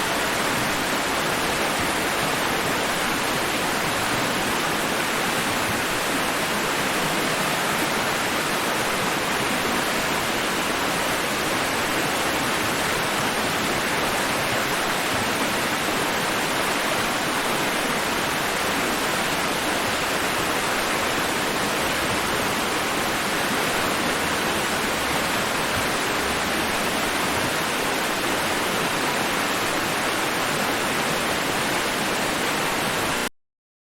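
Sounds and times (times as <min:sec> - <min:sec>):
rushing white noise: 0:00.0 - 0:33.3.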